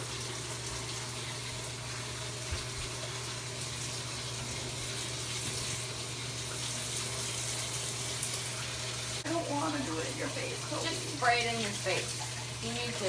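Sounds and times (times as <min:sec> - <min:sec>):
water running into bathtub: 0:00.0 - 0:13.0.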